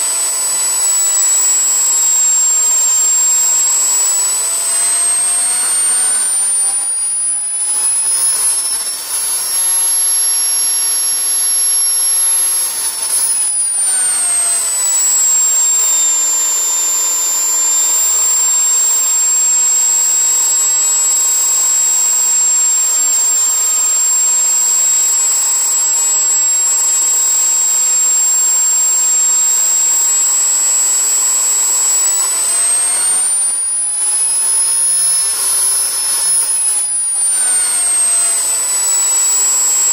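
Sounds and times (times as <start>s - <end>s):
jet turbine whine: 0.0s - 39.9s.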